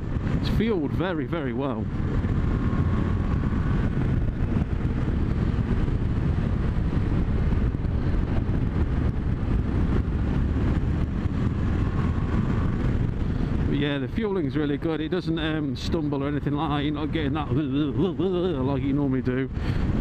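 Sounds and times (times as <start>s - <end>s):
motorcycle engine cruising: 0.0s - 19.0s
wind rush: 0.0s - 20.0s.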